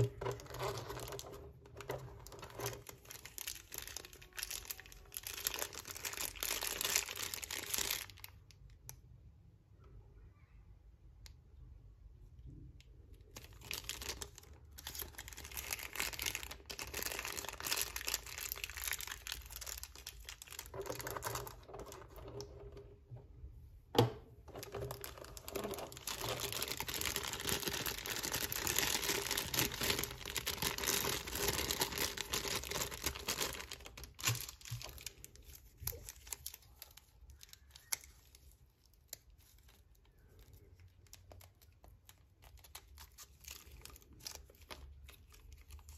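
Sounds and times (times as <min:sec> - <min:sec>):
plastic packaging crinkling: 0:00.0 - 0:08.7, 0:13.2 - 0:23.1, 0:24.4 - 0:45.9.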